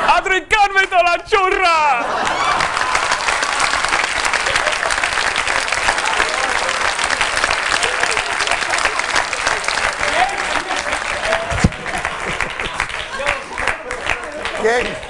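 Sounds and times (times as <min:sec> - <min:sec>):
audience applauding: 0:02.0 - 0:15.0.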